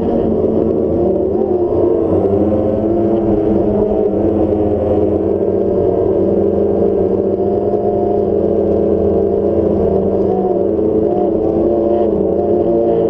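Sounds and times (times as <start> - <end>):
drone motors humming: 0.0 - 13.0.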